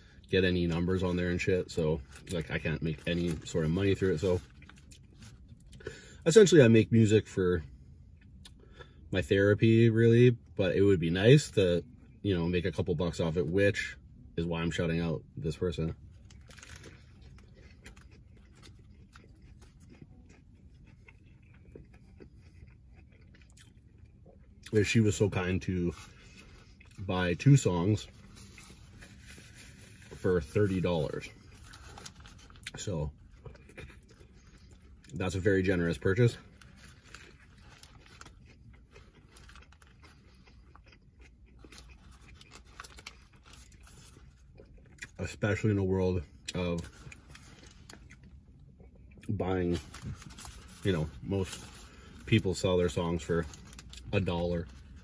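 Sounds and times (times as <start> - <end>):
steady low hum: 0.0 - 55.0
chewing burger: 0.1 - 6.4, 15.7 - 55.0.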